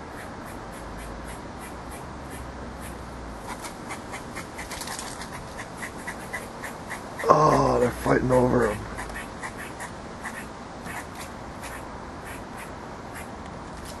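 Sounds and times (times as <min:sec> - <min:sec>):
squirrel alarm barks: 0:00.0 - 0:07.8, 0:08.7 - 0:13.4.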